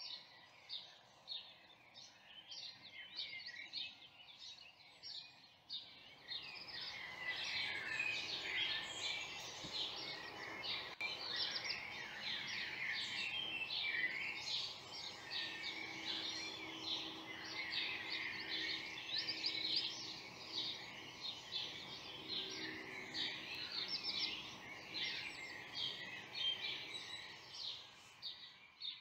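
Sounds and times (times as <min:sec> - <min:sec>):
songbirds chorus: 0:00.0 - 0:29.0.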